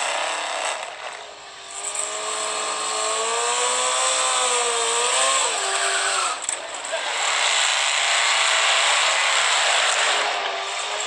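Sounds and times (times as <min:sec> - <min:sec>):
motorcycle engine revving high: 0:01.7 - 0:11.0.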